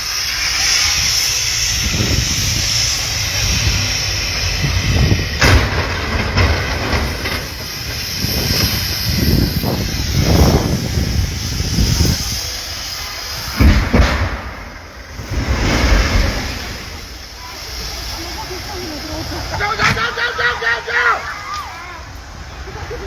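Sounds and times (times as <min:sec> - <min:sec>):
traffic hiss and rumble: 0:00.0 - 0:23.0.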